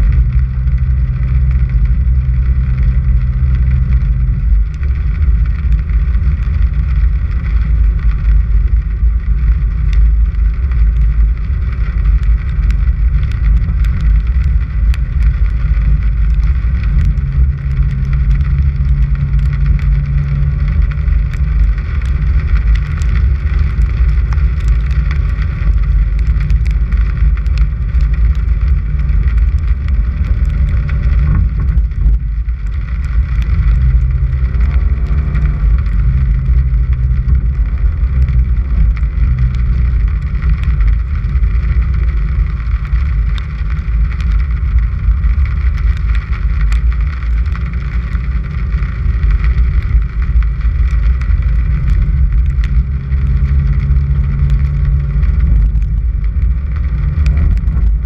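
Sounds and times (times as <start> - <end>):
car driving on gravel: 0.0 - 58.0.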